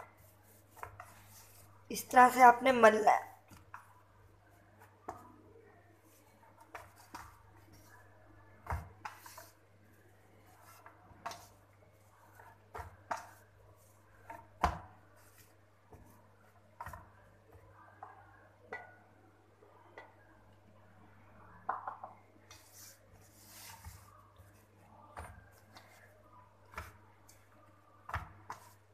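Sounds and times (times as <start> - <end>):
dough rubbing and squishing: 0.0 - 18.7, 22.3 - 28.9.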